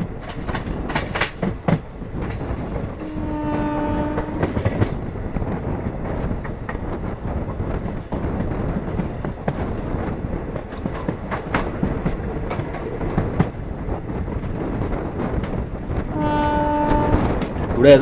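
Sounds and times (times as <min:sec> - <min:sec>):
train wheels rumbling on rail: 0:00.0 - 0:18.0
wheels clicking over rail joints: 0:00.0 - 0:18.0.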